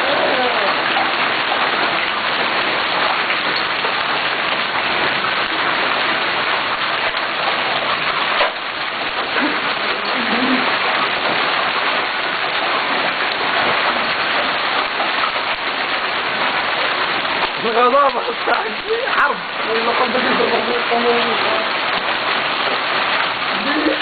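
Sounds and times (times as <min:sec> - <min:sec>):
hail and rain pelting down: 0:00.0 - 0:24.0.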